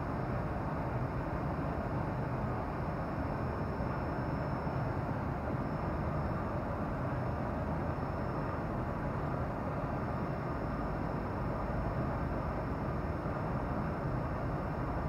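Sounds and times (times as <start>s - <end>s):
faint high whine: 0.0s - 15.0s
machine running steadily: 0.0s - 15.0s.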